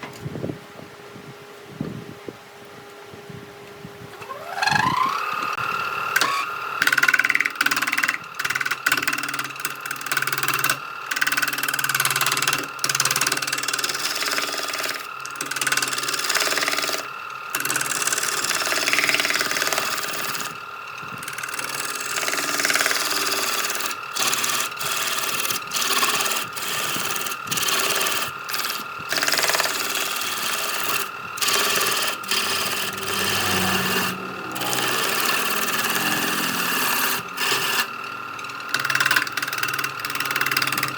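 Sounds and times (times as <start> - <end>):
power tool grinding wood: 4.2 - 40.9.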